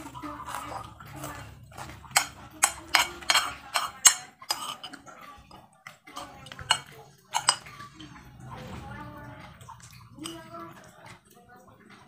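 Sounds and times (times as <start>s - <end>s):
dishes and cutlery clinking: 0.0s - 11.2s.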